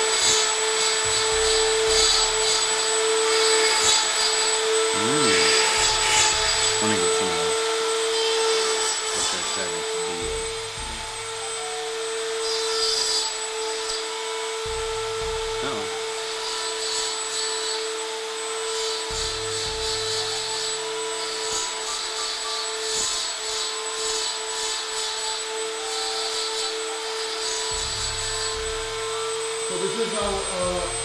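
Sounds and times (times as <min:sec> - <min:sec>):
burr grinding scratchily: 0:00.0 - 0:11.7, 0:12.4 - 0:31.0
rotary tool high whine: 0:00.0 - 0:31.0.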